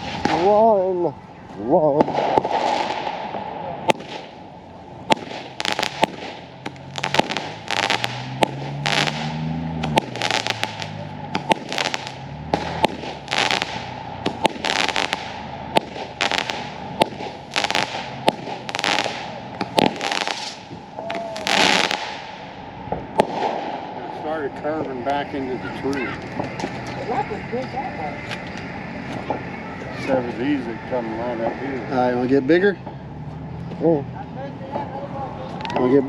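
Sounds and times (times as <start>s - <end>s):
fireworks banging and crackling: 0.0s - 33.0s.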